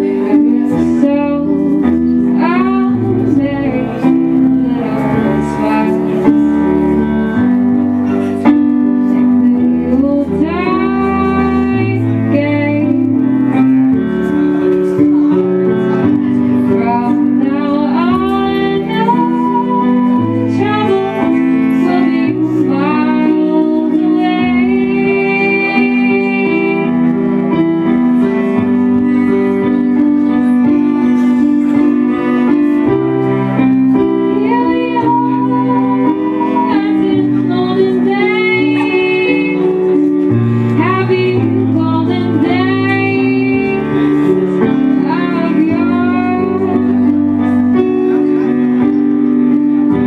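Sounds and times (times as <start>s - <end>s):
bowed cello: 0.0s - 50.0s
electric keyboard: 0.0s - 50.0s.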